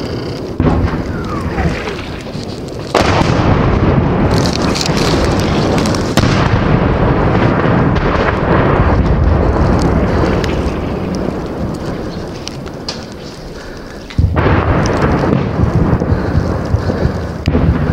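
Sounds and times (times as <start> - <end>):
loud blasts: 0.0 - 17.9
rumble of explosions: 0.0 - 17.9.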